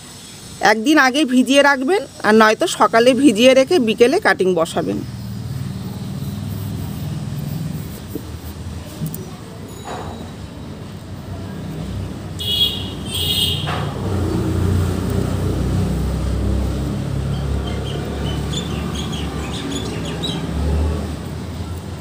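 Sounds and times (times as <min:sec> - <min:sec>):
road traffic rumbling: 0:00.0 - 0:22.0.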